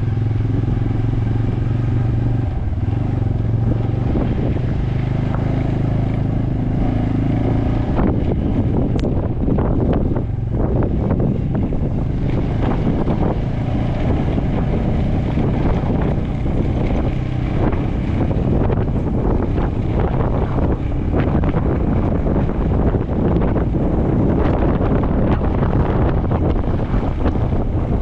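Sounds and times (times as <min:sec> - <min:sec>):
vehicle rumble: 0:00.0 - 0:28.0
wind buffeting microphone: 0:00.0 - 0:28.0.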